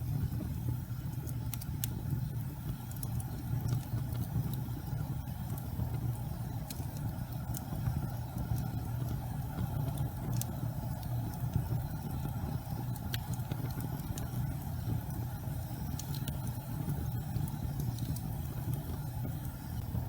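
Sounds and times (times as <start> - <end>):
fire crackles: 0.0 - 20.0
low rumble of flames: 0.0 - 20.0.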